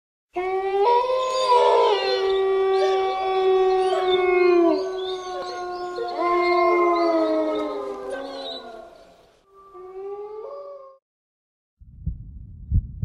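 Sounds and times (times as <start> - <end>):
animals howling: 0.4 - 11.0.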